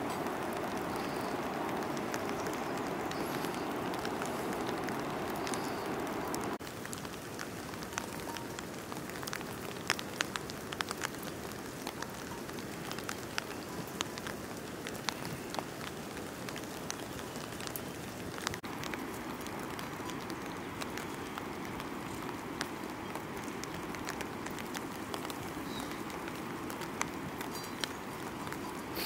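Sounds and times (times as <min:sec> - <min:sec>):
light rain on leaves: 0:00.0 - 0:29.0
raindrop ticks: 0:00.0 - 0:29.0.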